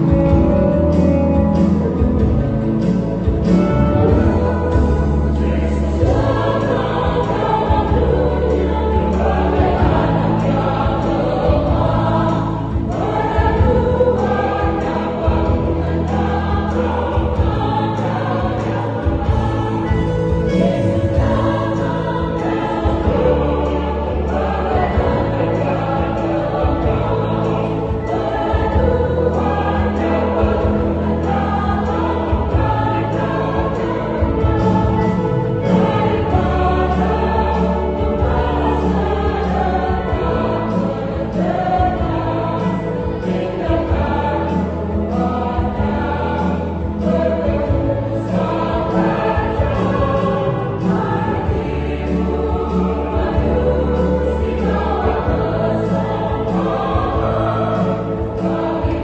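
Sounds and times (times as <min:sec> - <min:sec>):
choir singing a hymn: 0:00.0 - 0:59.0
low sustained bass notes: 0:00.0 - 0:59.0.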